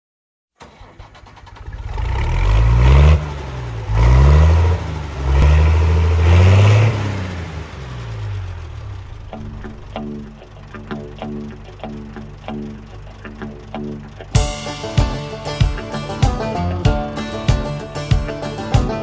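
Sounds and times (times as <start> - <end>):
engine revving: 0.6 - 19.0.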